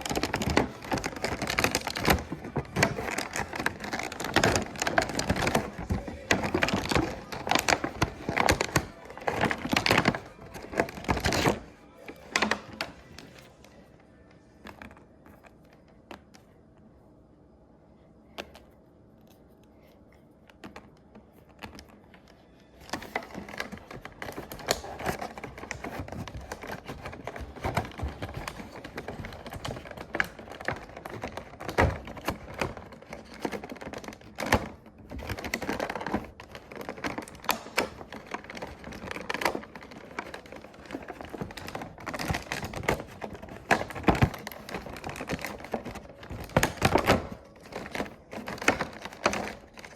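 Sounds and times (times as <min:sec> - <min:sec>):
hands tapping plastic packaging: 0:00.0 - 0:13.5, 0:20.6 - 0:49.9.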